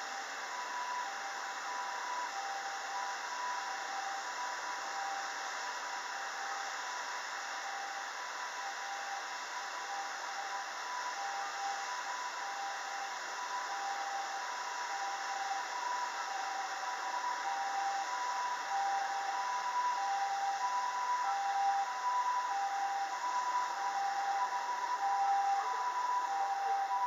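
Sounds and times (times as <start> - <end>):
background hiss: 0.0 - 27.0
two-tone ambulance siren: 0.1 - 27.0.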